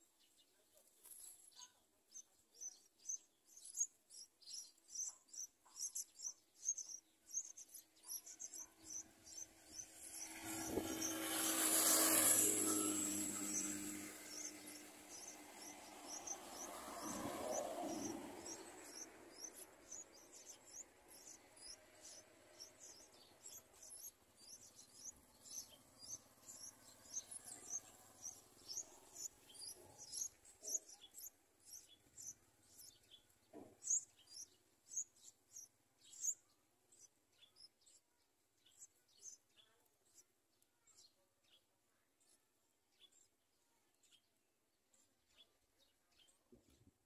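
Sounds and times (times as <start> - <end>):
nestlings begging chirps: 0.2 - 40.3.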